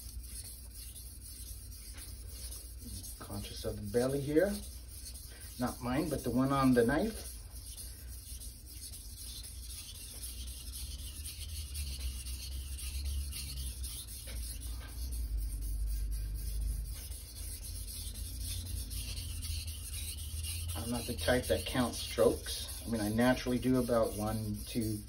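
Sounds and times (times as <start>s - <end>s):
knife scraping on whetstone: 0.0s - 25.0s.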